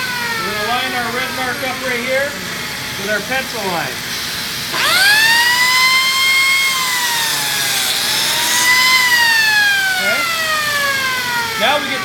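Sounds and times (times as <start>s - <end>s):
biscuit joiner motor whining: 0.0s - 12.0s.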